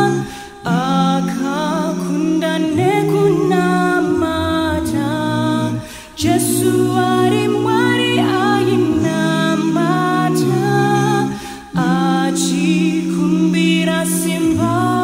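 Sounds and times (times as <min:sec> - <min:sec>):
a cappella group singing: 0:00.0 - 0:15.0.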